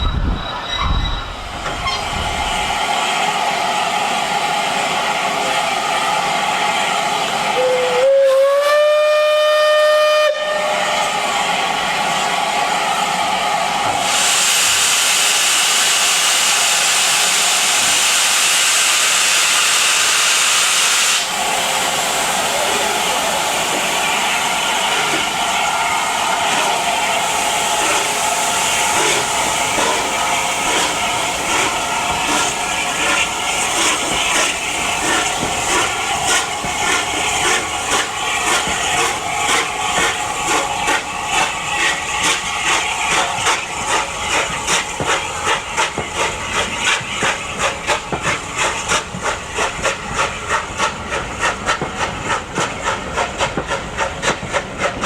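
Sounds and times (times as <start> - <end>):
steam hissing: 0.2 - 55.0.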